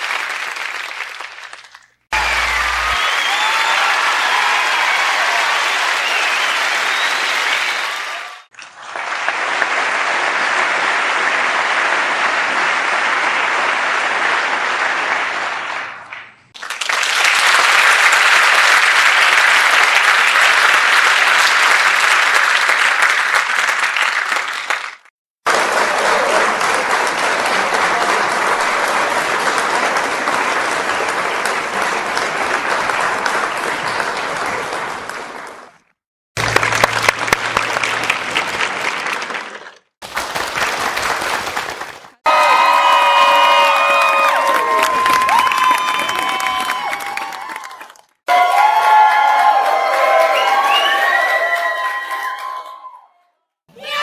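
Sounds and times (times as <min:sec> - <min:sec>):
crowd applause: 0:00.0 - 0:35.8, 0:36.4 - 0:53.0.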